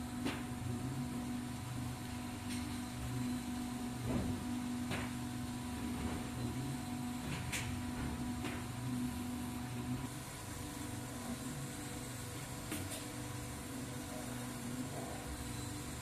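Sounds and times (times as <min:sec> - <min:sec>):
printer motor and fan hum: 0:00.0 - 0:16.0.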